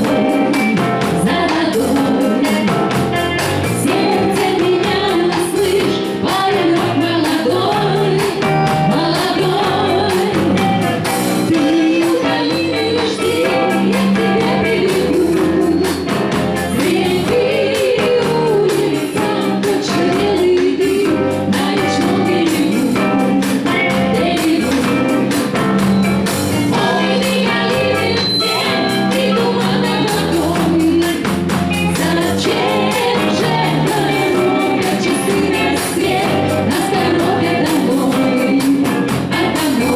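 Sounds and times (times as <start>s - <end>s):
band playing with singer: 0.0s - 39.9s.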